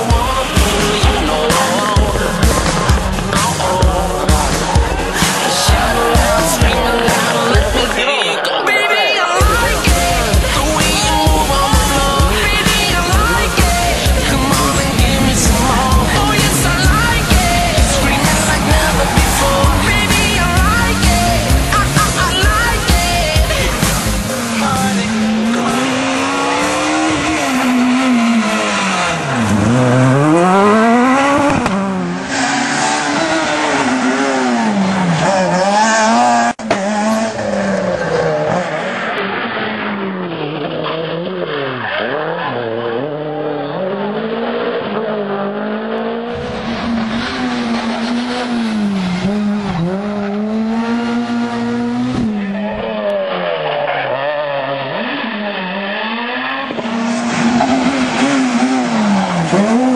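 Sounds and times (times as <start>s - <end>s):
tyres skidding on loose surface: 0.0s - 45.2s, 46.2s - 59.9s
rally car engines revving: 0.0s - 59.9s.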